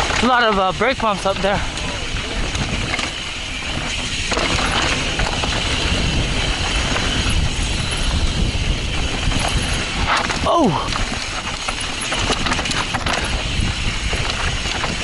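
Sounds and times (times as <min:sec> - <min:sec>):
bike hub ratcheting: 0:00.0 - 0:15.0
tyres and frame rattling: 0:00.0 - 0:15.0.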